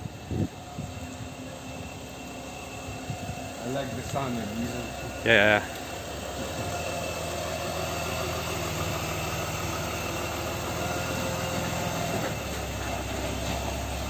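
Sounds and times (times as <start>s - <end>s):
van engine running: 0.0s - 14.0s.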